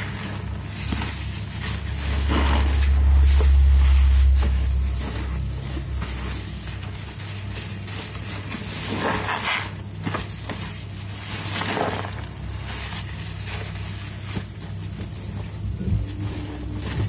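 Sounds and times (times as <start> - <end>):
wet foam squelching: 0.0 - 17.0.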